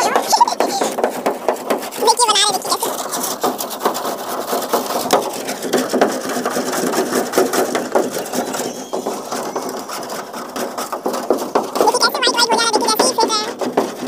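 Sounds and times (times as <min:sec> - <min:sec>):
hand scrapers scraping metal tray: 0:00.0 - 0:14.0.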